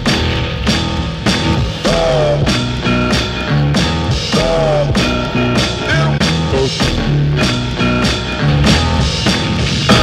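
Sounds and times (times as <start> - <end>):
bass guitar: 0.0 - 10.0
drum beat: 0.0 - 10.0
electric guitar: 0.0 - 10.0
rock music: 0.0 - 10.0.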